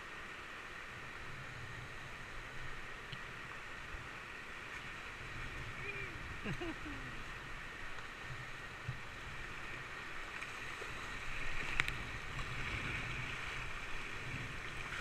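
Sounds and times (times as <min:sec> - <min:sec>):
rushing whitewater river: 0:00.0 - 0:15.0.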